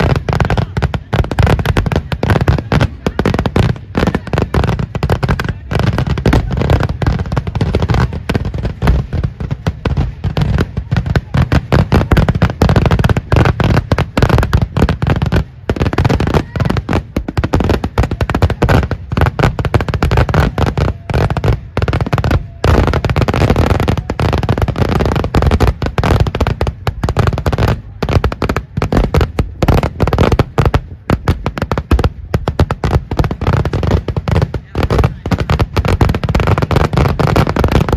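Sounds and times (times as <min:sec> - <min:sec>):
firecracker bangs: 0:00.0 - 0:37.9.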